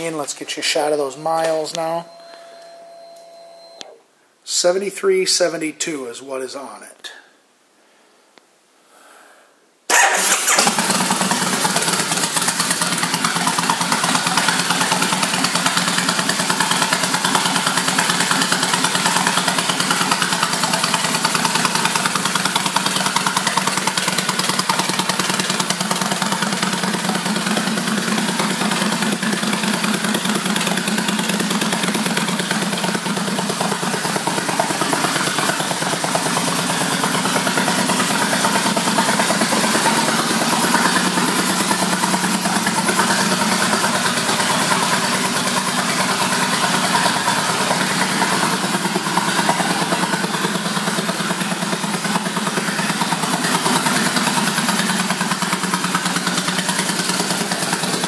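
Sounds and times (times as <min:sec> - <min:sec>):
motorcycle engine idling: 0:09.9 - 0:58.0.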